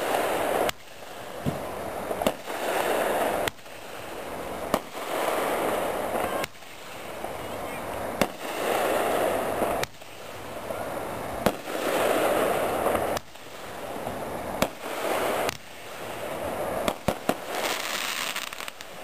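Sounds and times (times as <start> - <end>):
firework bangs: 0.0 - 19.0
firework hissing: 0.0 - 19.0.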